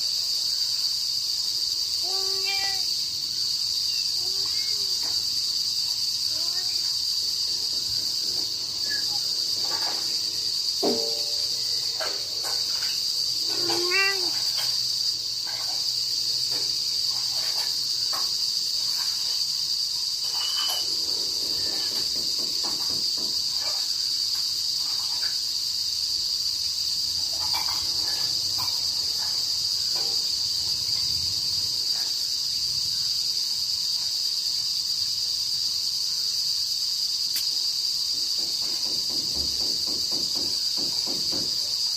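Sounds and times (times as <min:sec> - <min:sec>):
crickets chirping chorus: 0:00.0 - 0:41.9.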